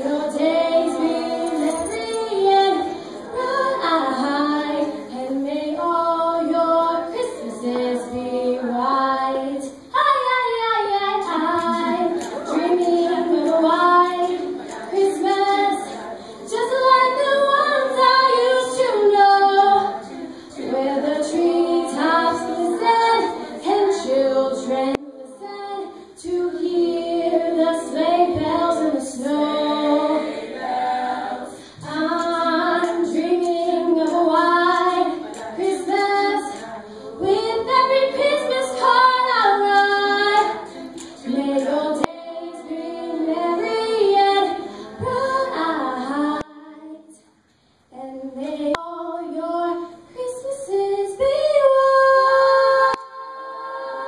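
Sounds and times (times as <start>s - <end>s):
choir singing a cappella: 0.0s - 47.3s, 47.9s - 54.0s.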